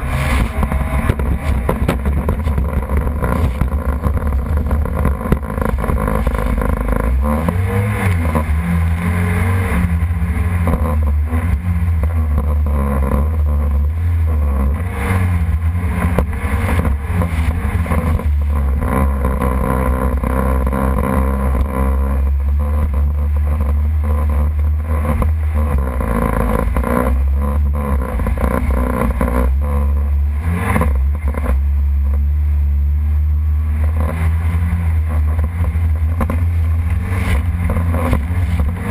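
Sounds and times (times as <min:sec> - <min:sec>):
jet ski engine running: 0:00.0 - 0:38.9.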